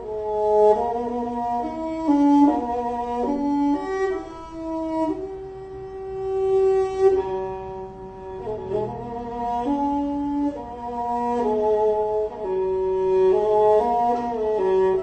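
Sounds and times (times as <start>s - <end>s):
bowed fiddles: 0.0s - 15.0s.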